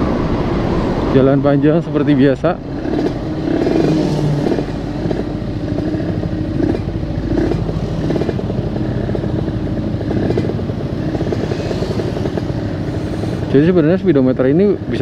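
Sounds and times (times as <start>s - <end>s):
two-stroke motorcycle engine running: 2.6s - 15.0s.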